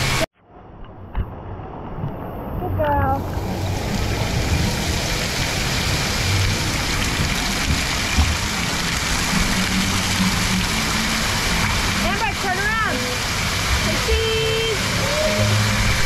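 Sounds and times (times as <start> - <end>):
water spraying from fountains: 0.0 - 0.3, 2.4 - 16.0.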